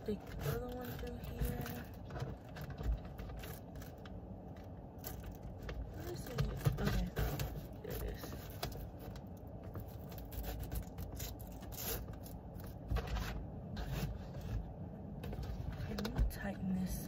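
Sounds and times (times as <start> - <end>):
plastic and strap scraping and clicking: 0.0 - 16.4.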